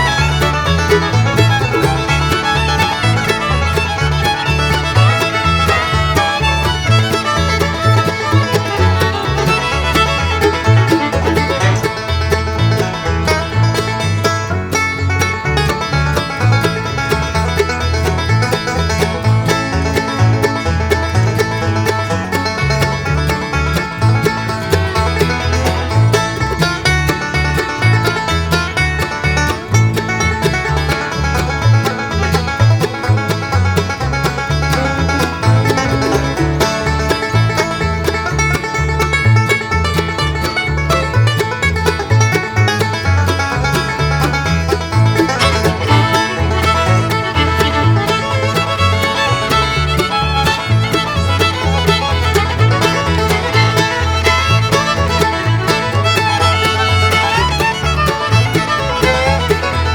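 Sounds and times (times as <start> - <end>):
upbeat bluegrass music: 0.0 - 59.9.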